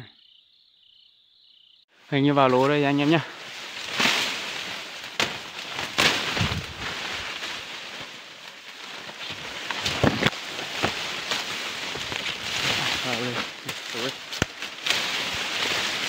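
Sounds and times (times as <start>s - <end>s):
leaves rustling against camera: 2.0s - 16.0s.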